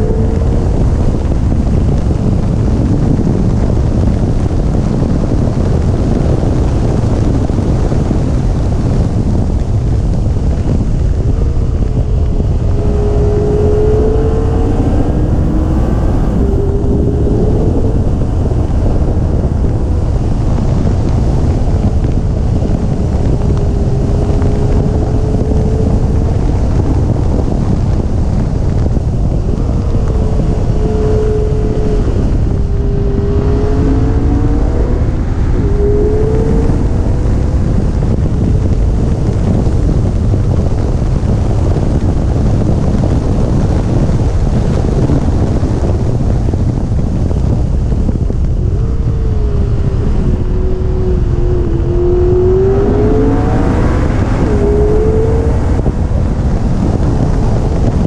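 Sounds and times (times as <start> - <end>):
car engine revving: 0.0 - 4.6, 5.2 - 58.0
wind buffeting microphone: 0.0 - 58.0.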